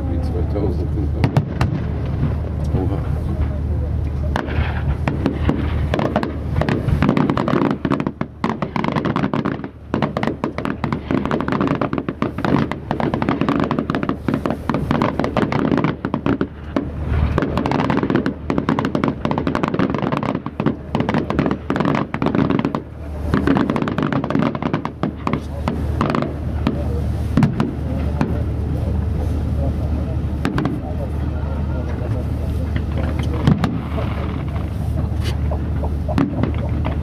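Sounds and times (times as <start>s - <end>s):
fireworks bangs and crackles: 0.6s - 37.0s.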